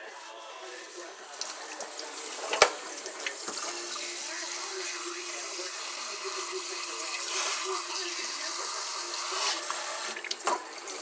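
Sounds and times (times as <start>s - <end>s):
faucet running into steel sink: 1.3s - 11.0s.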